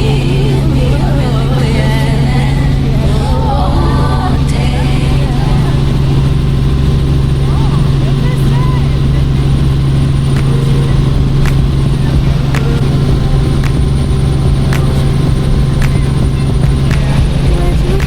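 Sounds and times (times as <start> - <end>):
faint ticking: 0.0 - 18.0
helicopter engine and rotor drone: 0.0 - 18.0.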